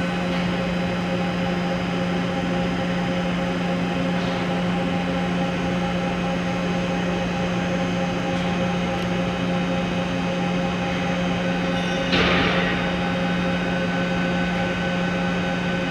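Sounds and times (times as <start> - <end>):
boring mill machine hum: 0.0 - 15.9.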